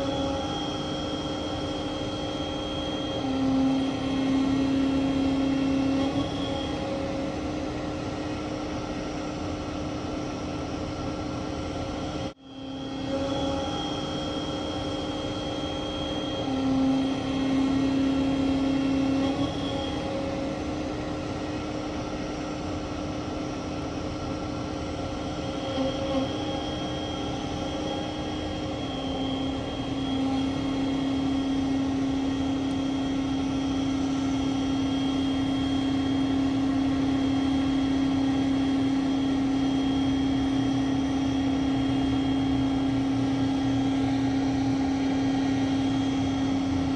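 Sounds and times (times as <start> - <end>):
crane engine and hydraulic hum: 0.0 - 46.9.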